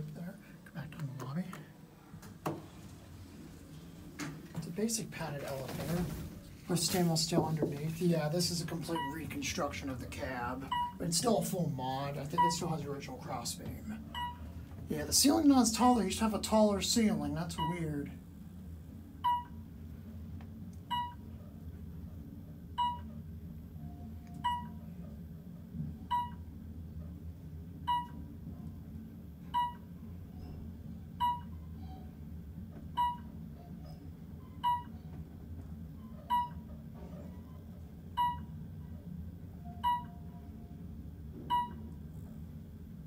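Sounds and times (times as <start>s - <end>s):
low hum of moving elevator: 0.0s - 43.0s.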